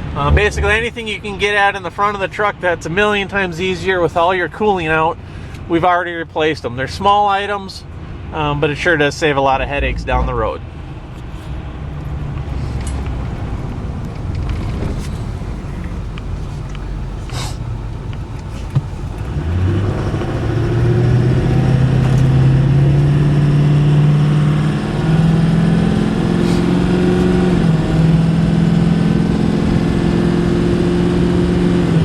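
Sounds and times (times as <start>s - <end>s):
diesel truck engine accelerating: 0.0s - 2.0s, 7.9s - 32.0s.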